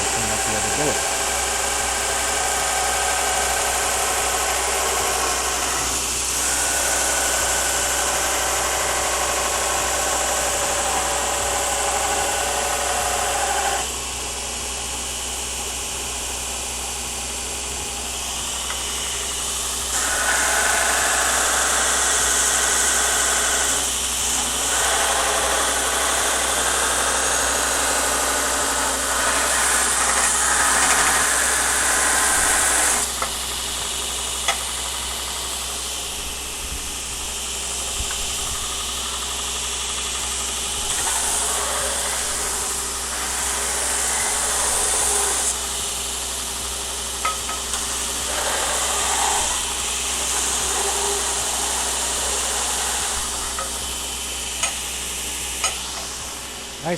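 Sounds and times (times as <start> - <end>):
belt grinder motor running: 0.0 - 56.9.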